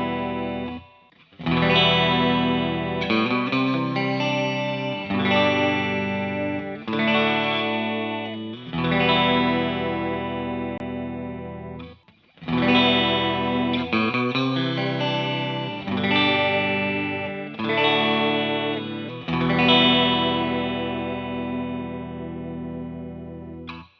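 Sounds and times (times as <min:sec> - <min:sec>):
electric guitar chords with chorus: 0:00.0 - 0:23.9.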